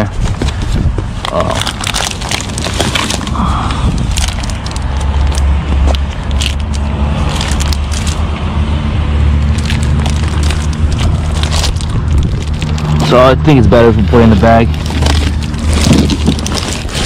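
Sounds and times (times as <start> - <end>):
plastic bag crinkling: 0.0 - 8.3, 9.4 - 17.0
steady low rumble: 0.0 - 17.0.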